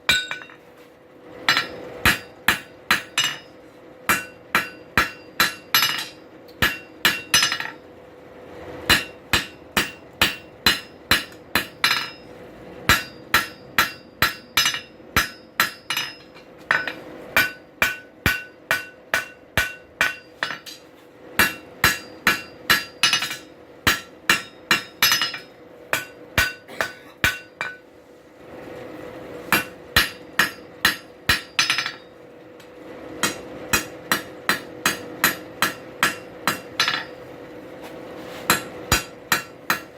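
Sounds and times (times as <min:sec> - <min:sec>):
hammer striking steel on anvil: 0:00.0 - 0:00.6, 0:01.4 - 0:07.8, 0:08.9 - 0:12.3, 0:12.9 - 0:27.9, 0:29.5 - 0:32.1, 0:33.2 - 0:37.2, 0:38.4 - 0:39.9.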